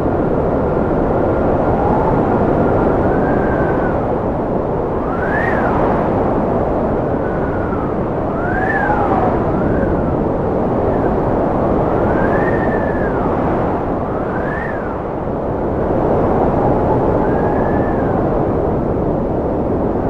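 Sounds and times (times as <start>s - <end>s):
strong wind rushing: 0.0s - 20.0s
wind howling whistles: 0.0s - 20.0s.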